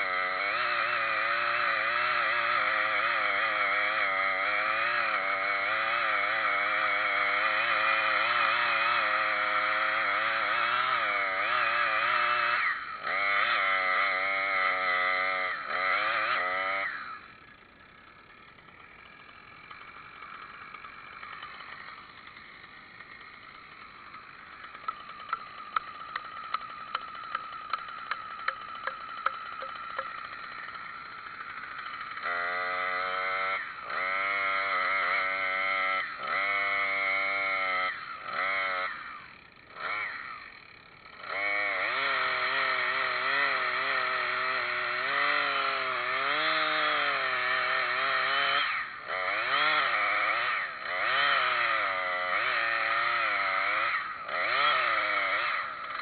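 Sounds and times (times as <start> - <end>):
chainsaw idling hum with ticks: 0.0 - 56.0
chainsaw revving: 0.0 - 56.0.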